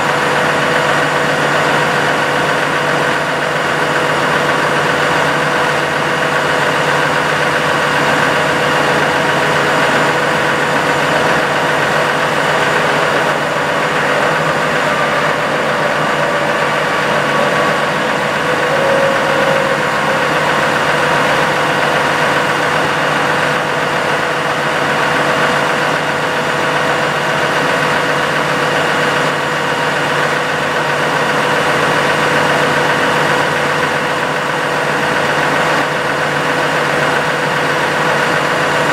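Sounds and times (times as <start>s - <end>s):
diesel engine idling: 0.0s - 38.9s
hydraulic whine: 0.0s - 38.9s.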